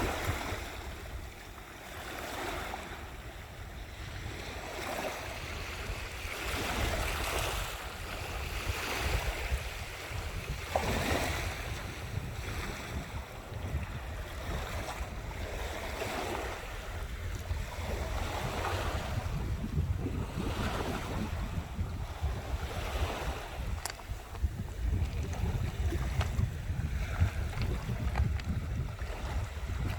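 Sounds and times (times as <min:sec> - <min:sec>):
sea waves breaking on shore: 0:00.0 - 0:29.9
wind rumbling on microphone: 0:00.0 - 0:29.9.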